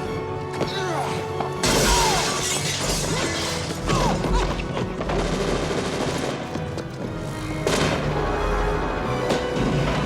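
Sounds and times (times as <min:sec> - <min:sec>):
dramatic film score: 0:00.0 - 0:10.0.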